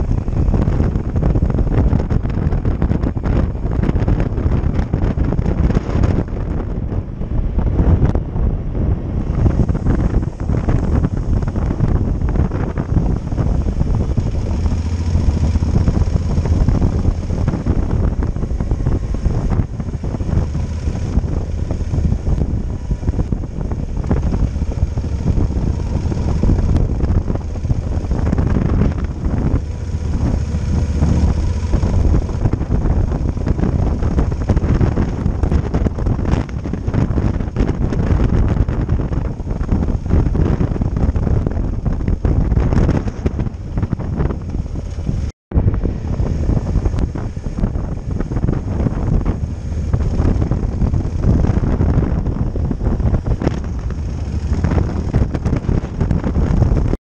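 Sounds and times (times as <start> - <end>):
motorcycle engine drone: 0.0 - 57.0
wind buffeting microphone: 0.0 - 57.0.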